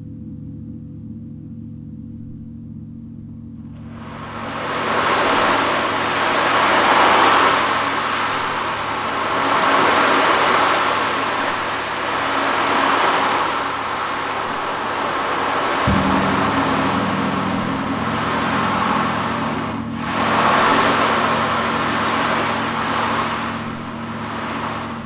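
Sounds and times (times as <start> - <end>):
faint gong hum: 0.0 - 25.0.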